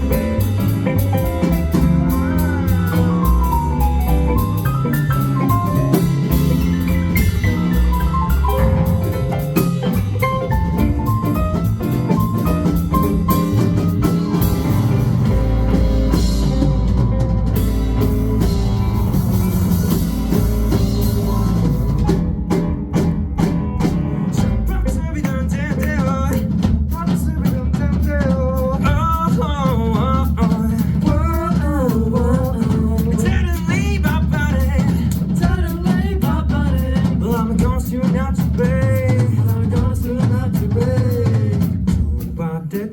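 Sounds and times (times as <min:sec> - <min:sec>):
drum kit groove: 0:00.0 - 0:42.9
funk band playing: 0:00.0 - 0:42.9.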